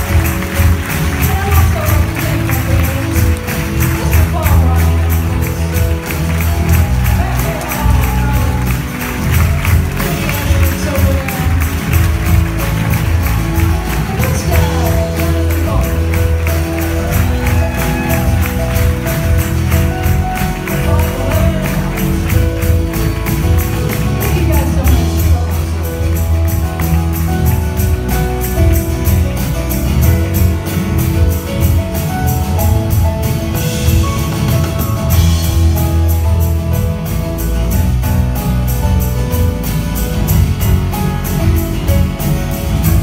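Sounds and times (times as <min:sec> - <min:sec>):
live band playing: 0:00.0 - 0:43.0.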